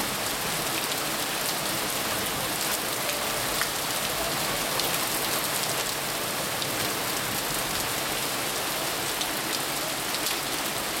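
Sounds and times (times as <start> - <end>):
heavy rain on wet asphalt: 0.0 - 11.0.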